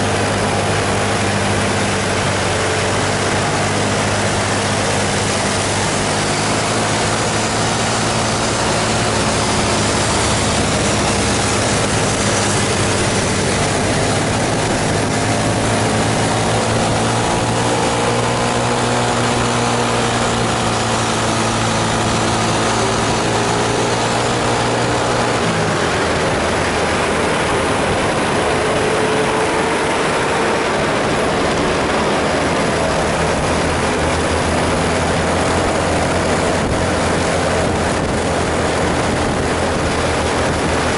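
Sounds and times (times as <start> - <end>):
heavy diesel bus engine: 0.0 - 40.9
second engine rising and falling: 0.0 - 40.9.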